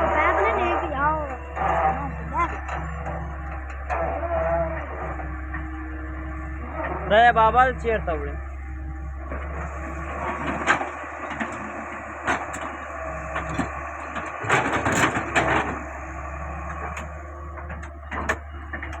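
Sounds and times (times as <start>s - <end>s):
excavator engine hum: 0.0s - 19.0s.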